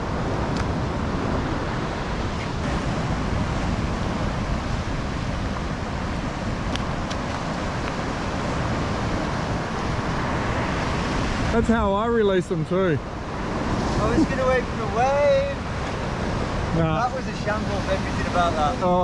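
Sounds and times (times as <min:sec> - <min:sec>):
surf washing against rocks: 0:00.0 - 0:19.0
wind buffeting microphone: 0:00.0 - 0:19.0.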